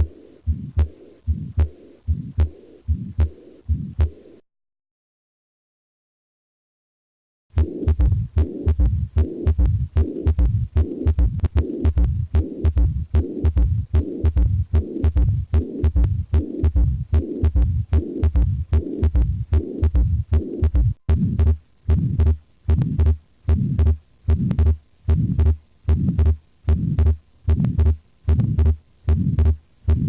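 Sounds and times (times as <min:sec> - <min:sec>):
heart beating: 0:00.0 - 0:04.3, 0:07.6 - 0:30.0
heart murmur: 0:00.0 - 0:04.3, 0:07.6 - 0:30.0.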